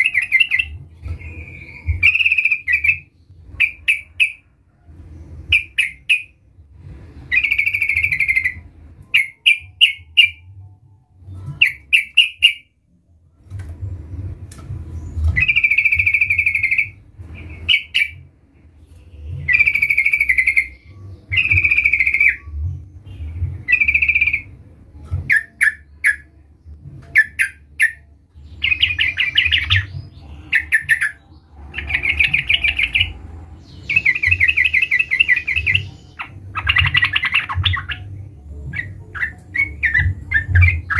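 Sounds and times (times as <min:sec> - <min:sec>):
bulbul singing: 0:00.0 - 0:04.5, 0:05.3 - 0:06.4, 0:07.2 - 0:10.6, 0:11.2 - 0:12.9, 0:14.9 - 0:18.3, 0:18.9 - 0:40.9.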